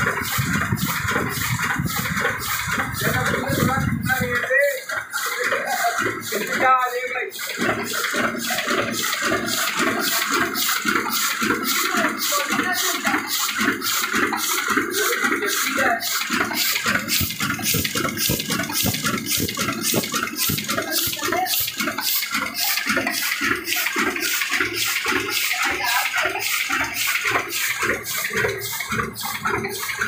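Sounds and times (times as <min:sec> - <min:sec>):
printing press clatter: 0:00.0 - 0:30.0.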